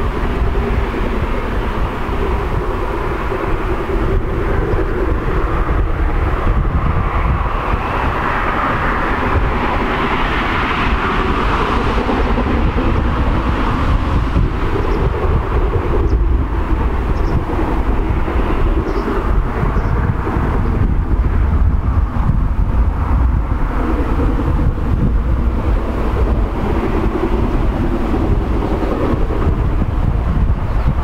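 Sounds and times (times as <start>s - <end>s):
heavy low rumble: 0.0s - 31.0s.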